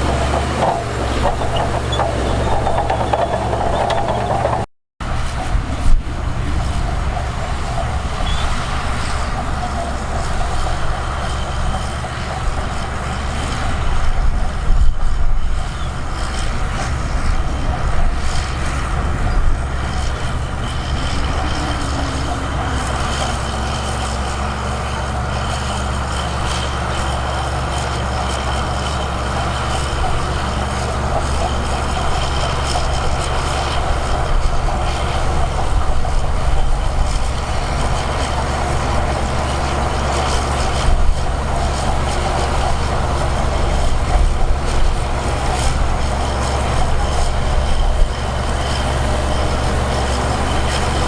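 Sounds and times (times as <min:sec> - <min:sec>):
diesel earthmoving machinery: 0:00.0 - 0:51.0.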